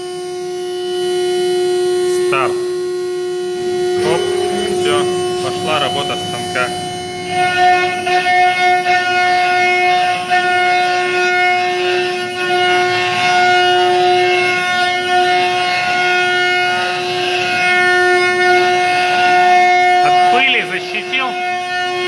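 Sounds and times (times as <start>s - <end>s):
cnc router spindle whine: 0.0s - 22.0s
router bit cutting wood: 1.4s - 22.0s.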